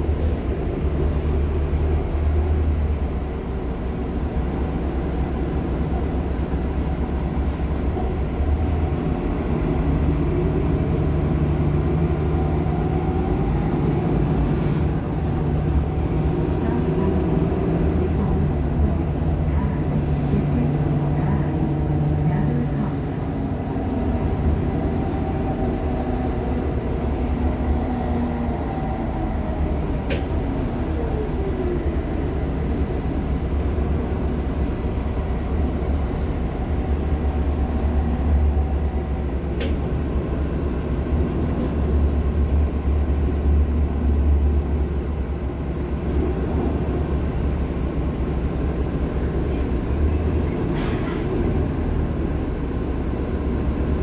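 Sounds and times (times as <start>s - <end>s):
bus engine droning: 0.0s - 54.0s
road rumble: 0.0s - 54.0s.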